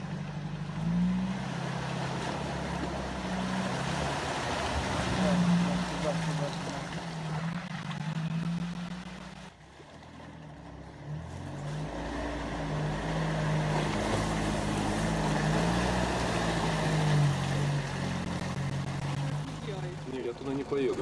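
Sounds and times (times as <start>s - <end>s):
mud and water sloshing: 0.0s - 21.0s
off-road vehicle engine revving: 0.0s - 21.0s.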